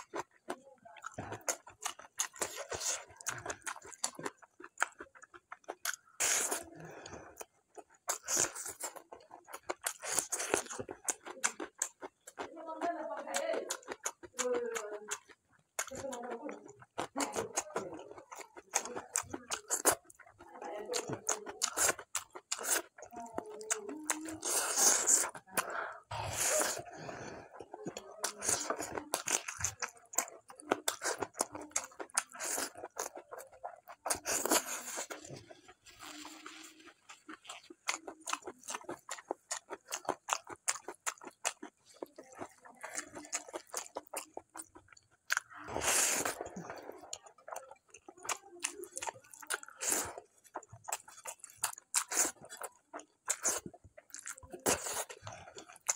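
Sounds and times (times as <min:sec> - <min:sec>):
person chewing: 0:00.0 - 0:55.9.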